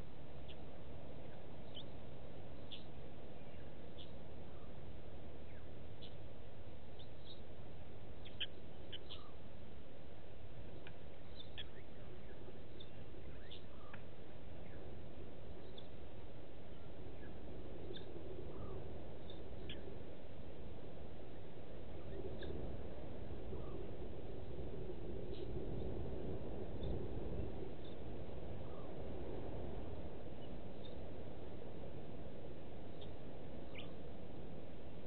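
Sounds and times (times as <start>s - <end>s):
low background hiss: 0.0s - 35.0s.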